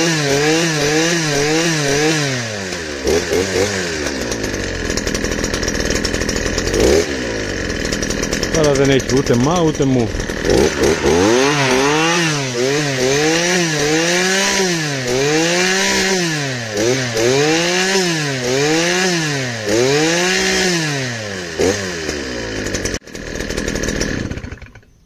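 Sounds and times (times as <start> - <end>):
brush cutter engine revving: 0.0 - 24.9.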